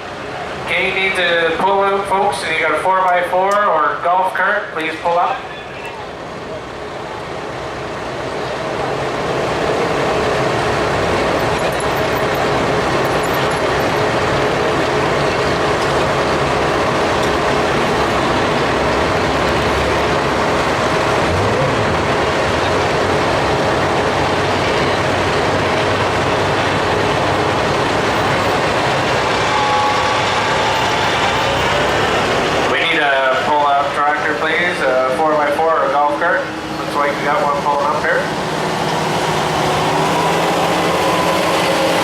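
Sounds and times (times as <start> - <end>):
vehicle engine running: 6.1 - 42.0.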